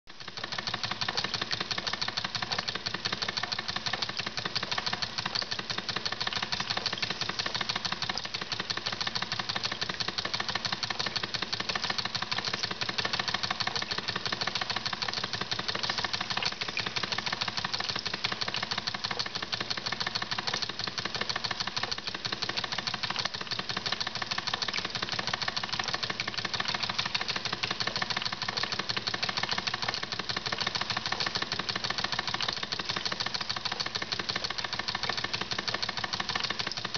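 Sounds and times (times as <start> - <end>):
toy steam engine chuffing: 0.2 - 36.9.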